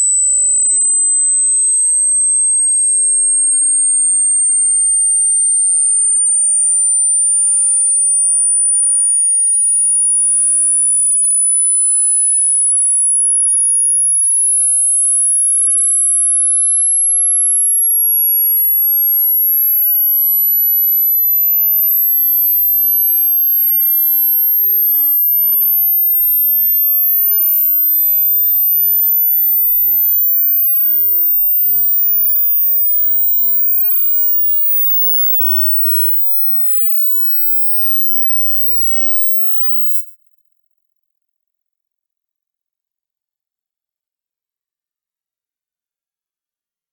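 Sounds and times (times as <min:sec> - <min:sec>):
high sine test tone rising: 0:00.0 - 0:40.3.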